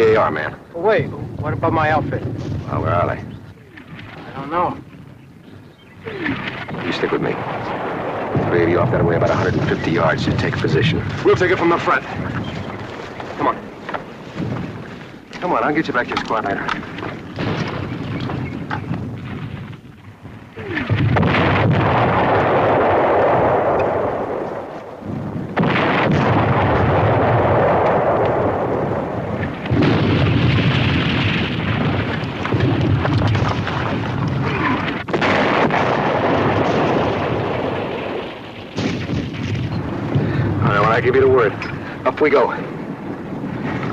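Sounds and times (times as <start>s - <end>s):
shell explosions rumbling: 0.0s - 43.9s.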